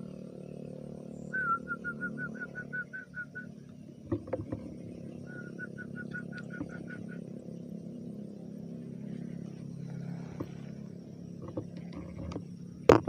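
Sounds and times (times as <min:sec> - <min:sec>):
frogs and insects droning: 0:00.0 - 0:13.0
quick evenly spaced chirps: 0:00.4 - 0:11.8.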